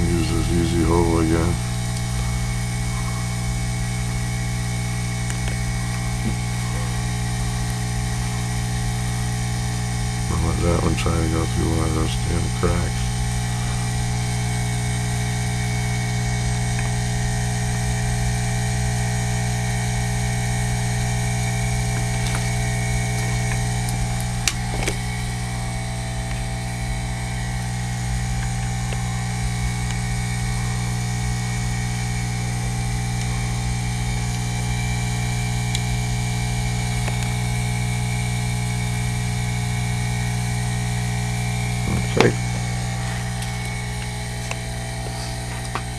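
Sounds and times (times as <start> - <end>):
electrical hum with low tones: 0.0 - 45.9.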